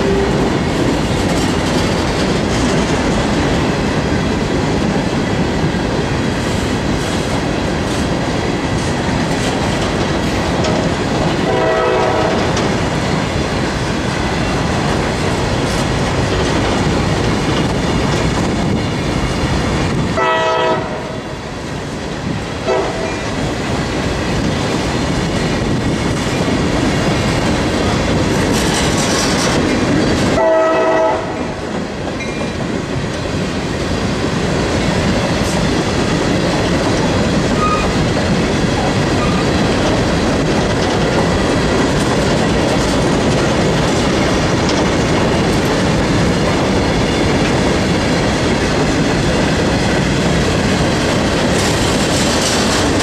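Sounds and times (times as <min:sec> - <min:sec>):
wheels clickety-clack over joints: 0:00.0 - 0:20.1, 0:21.8 - 0:53.0
freight train rumbling past: 0:00.0 - 0:53.0.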